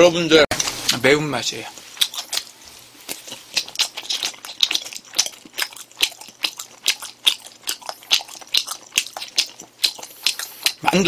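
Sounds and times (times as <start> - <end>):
wet chewing mouth smacks: 2.0 - 10.9.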